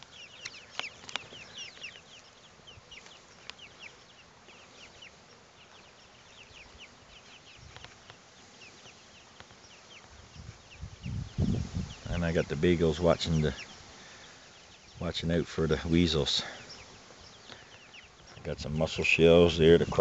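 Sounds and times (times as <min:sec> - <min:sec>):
young chickens cheeping: 0:00.0 - 0:20.0.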